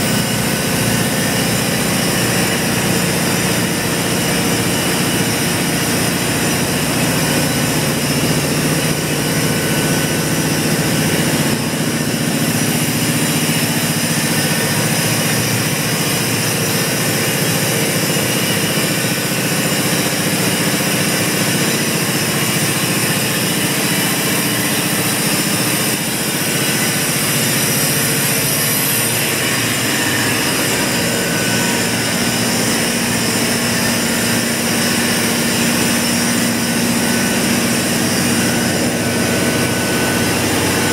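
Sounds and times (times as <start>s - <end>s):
gas compressor running: 0.0s - 40.9s.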